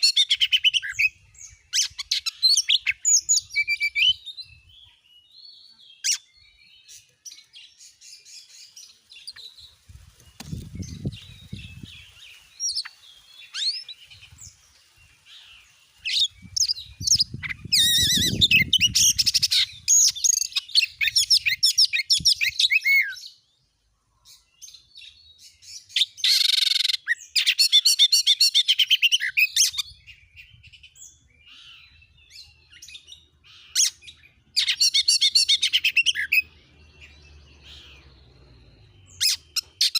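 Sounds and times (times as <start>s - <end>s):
songbird singing trilled bursts: 0.0s - 23.3s, 25.2s - 39.9s.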